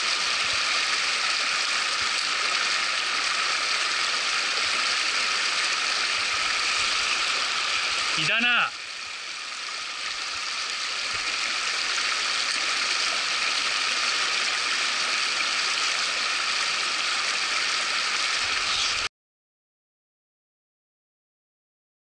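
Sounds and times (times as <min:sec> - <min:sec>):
stream water rushing over rocks: 0:00.0 - 0:19.1.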